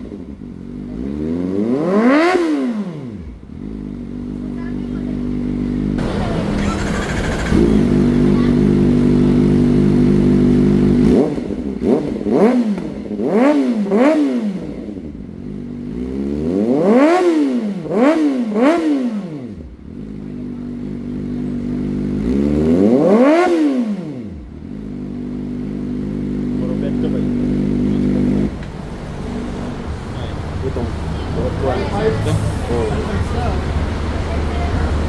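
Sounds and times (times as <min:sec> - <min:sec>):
motorcycle engine idling: 0:00.0 - 0:01.6, 0:03.0 - 0:17.0, 0:17.7 - 0:35.0
motorcycle throttle revs: 0:00.0 - 0:35.0.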